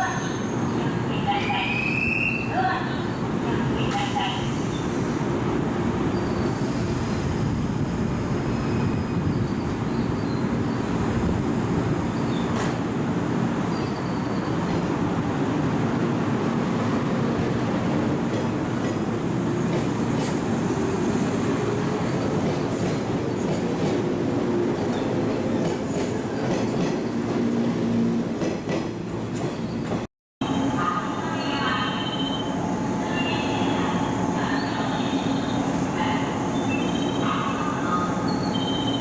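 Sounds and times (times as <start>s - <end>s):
train rumbling: 2.5s - 39.0s.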